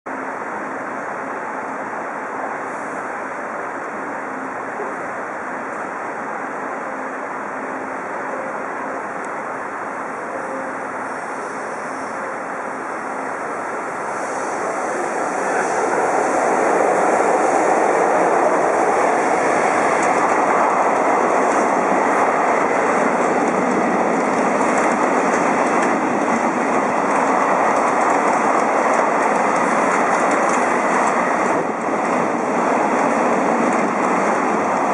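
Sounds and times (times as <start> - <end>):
train rumble: 0.1 - 34.9
wheel and rail noise: 0.1 - 34.9.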